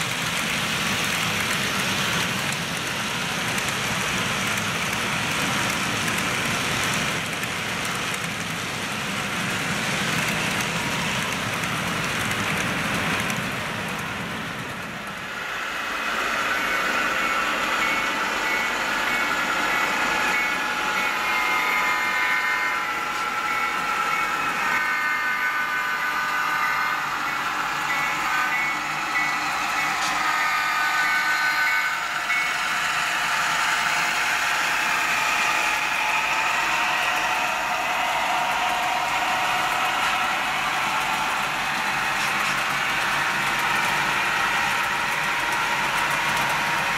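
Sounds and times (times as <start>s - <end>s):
model locomotive engine sound: 0.0s - 46.9s
wheels rolling on rail: 0.0s - 46.9s.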